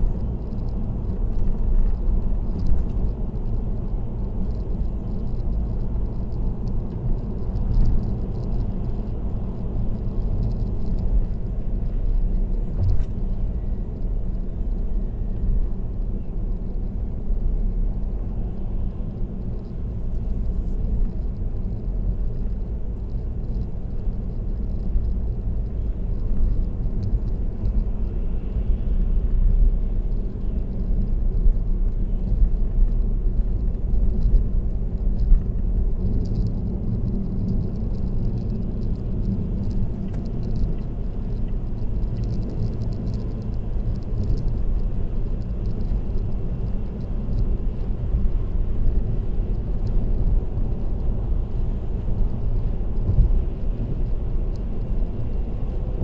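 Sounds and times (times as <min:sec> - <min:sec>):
road and tyre rumble: 0:00.0 - 0:56.0.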